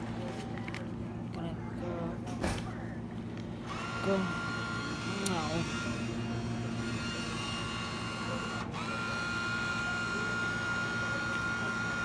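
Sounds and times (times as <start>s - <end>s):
vending machine whirring: 0.0s - 12.0s.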